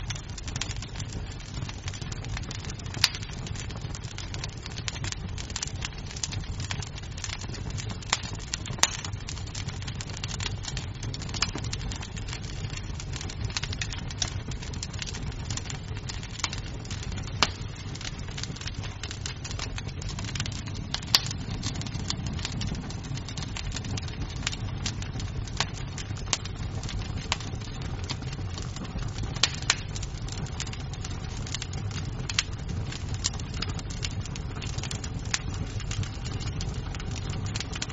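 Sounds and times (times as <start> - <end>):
loud fire pops: 0.0 - 37.9
wood fire crackling: 0.0 - 37.9.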